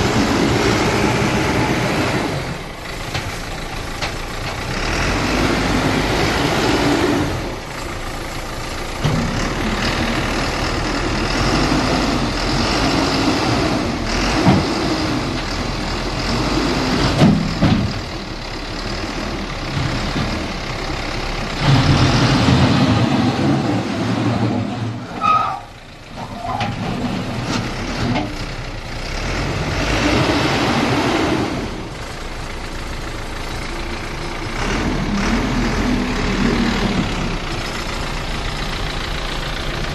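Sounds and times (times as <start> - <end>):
diesel excavators working: 0.0 - 39.9.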